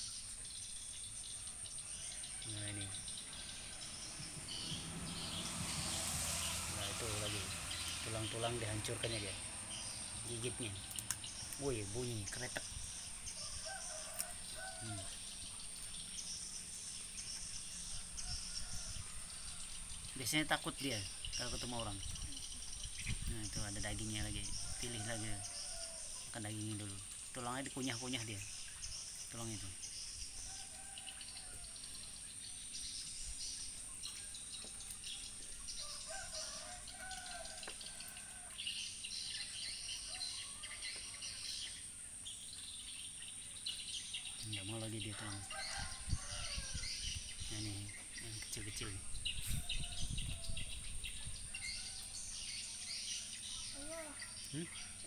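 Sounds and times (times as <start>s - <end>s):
insects chirring: 0.0s - 50.5s.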